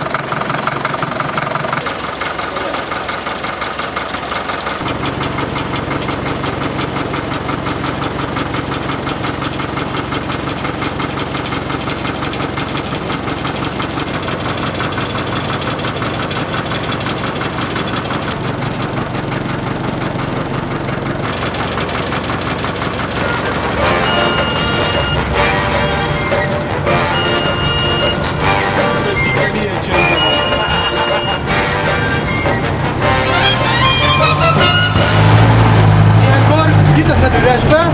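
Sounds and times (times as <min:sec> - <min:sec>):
diesel engine idling: 0:00.0 - 0:37.9.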